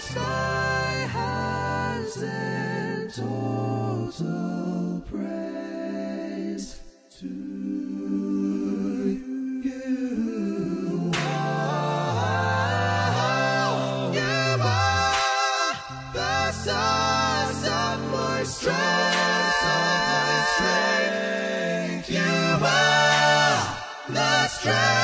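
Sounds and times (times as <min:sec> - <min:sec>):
a cappella vocal harmony: 0:00.0 - 0:25.0.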